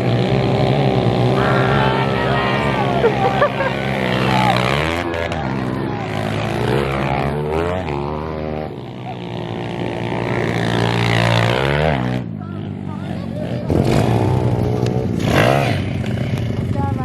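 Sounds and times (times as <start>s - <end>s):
pit bike engines revving: 0.0s - 17.0s.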